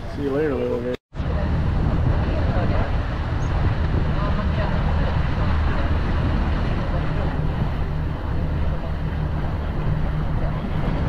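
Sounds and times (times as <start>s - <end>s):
wind and water rushing: 0.0s - 11.0s
boat motor droning: 1.2s - 11.0s.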